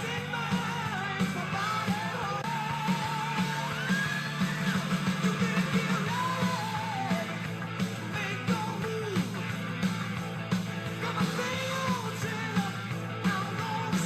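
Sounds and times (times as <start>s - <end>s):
singing voice: 0.0s - 14.0s.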